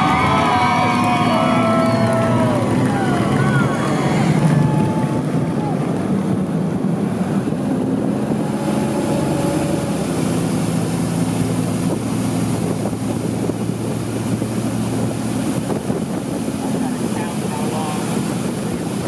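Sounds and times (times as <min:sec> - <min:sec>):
motorboat engine running: 0:00.0 - 0:19.0
wind on microphone: 0:00.0 - 0:19.0.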